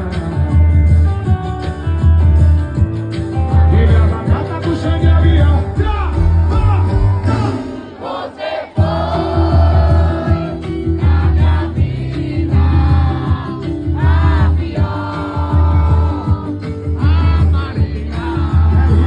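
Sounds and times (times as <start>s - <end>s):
pulsing bass beat: 0.0s - 8.0s, 8.8s - 19.0s
live band music with singing: 0.0s - 19.0s.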